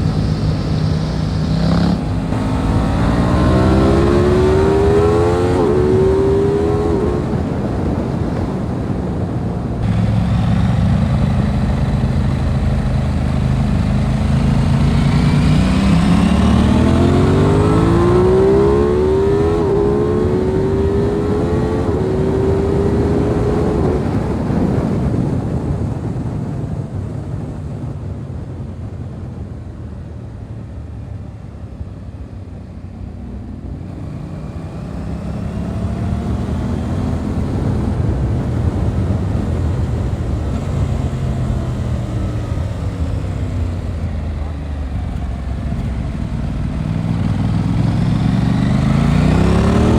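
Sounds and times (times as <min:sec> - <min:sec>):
motorcycle engine accelerating: 0:00.0 - 0:26.6, 0:31.6 - 0:49.9.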